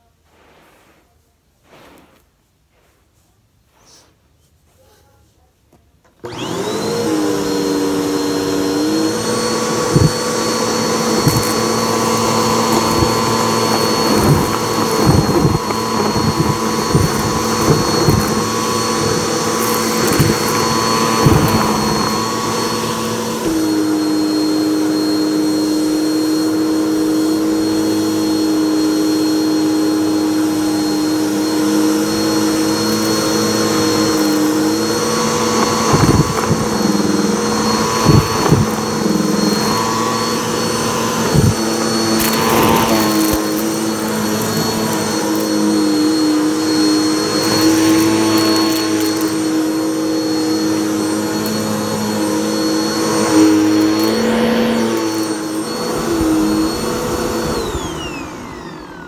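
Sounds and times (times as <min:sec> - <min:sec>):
vacuum cleaner motor whine: 0:06.0 - 0:59.0
debris crackling in vacuum hose: 0:06.2 - 0:26.5, 0:30.4 - 0:58.5.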